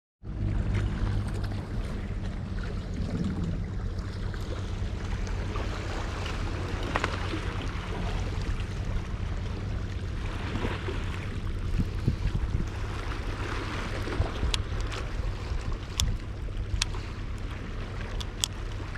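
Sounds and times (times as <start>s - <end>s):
water noise: 0.2s - 18.9s
wind: 0.2s - 18.9s.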